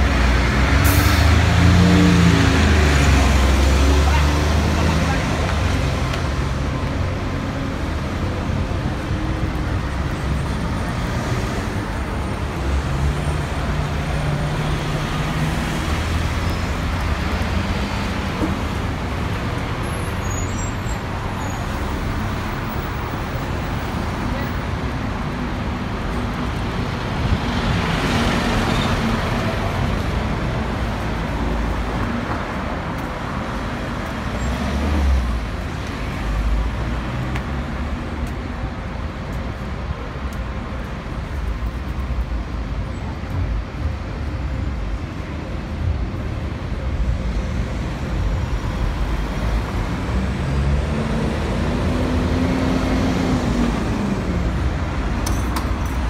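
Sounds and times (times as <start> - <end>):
cars and buses passing: 0.0 - 56.0.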